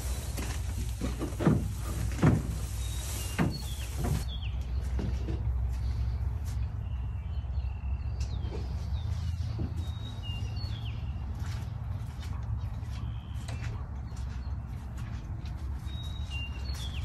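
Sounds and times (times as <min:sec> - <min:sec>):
small birds chirping: 0:02.5 - 0:17.0.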